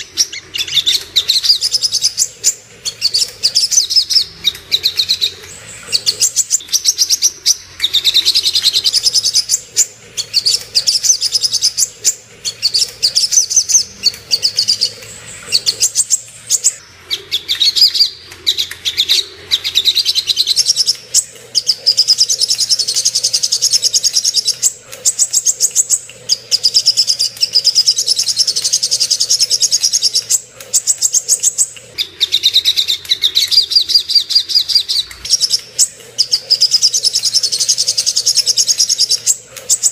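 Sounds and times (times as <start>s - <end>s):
bird singing high chattering trills: 0.0s - 39.9s.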